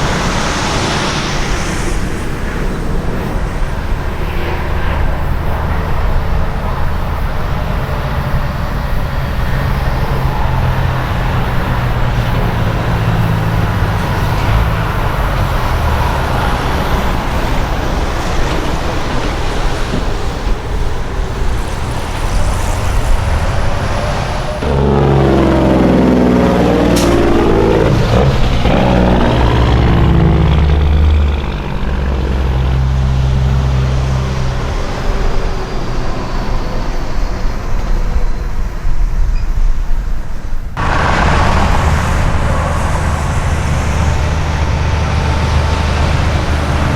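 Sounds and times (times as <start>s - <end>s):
diesel truck engines running: 0.0s - 39.2s, 40.0s - 46.9s
truck passing close: 0.0s - 39.3s, 40.0s - 46.9s.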